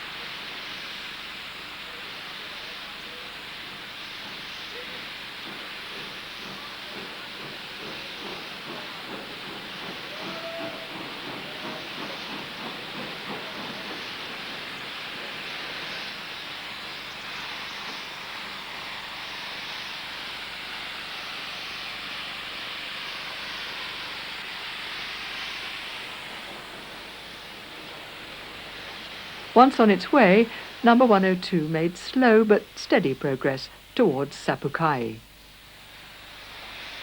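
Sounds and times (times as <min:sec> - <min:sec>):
steam hissing: 0:00.0 - 0:37.0
steam locomotive chuffing: 0:00.0 - 0:37.0.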